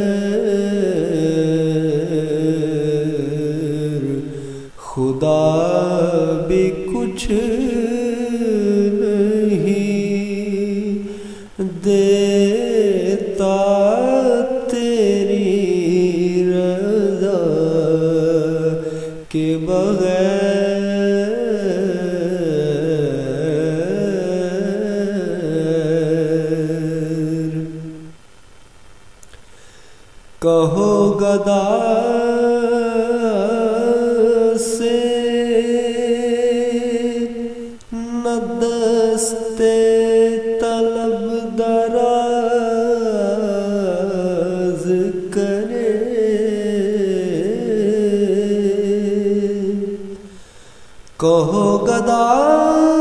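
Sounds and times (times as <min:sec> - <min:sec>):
man singing solo: 0:00.0 - 0:28.2, 0:30.4 - 0:50.4, 0:51.1 - 0:53.0.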